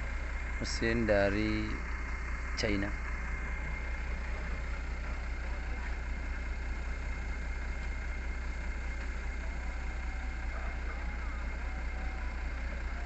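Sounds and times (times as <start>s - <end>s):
engine idling with high whine: 0.0s - 13.0s.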